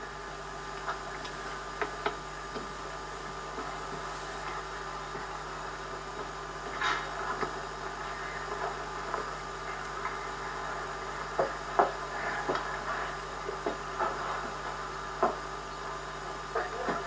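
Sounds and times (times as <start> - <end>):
tape hiss: 0.0 - 17.0.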